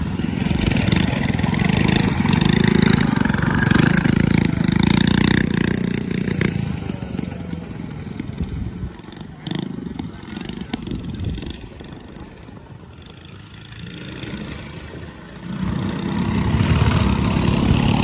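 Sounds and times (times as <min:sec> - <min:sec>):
mini bike engines racing: 0:00.0 - 0:18.0.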